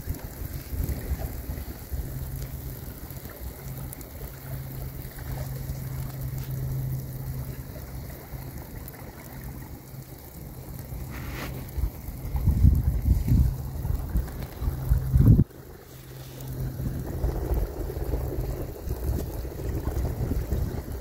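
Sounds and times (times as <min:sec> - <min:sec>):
low steady hum: 0:00.0 - 0:21.0
rain falling on water and sand: 0:00.0 - 0:21.0
wind rumbling on microphone: 0:00.0 - 0:21.0.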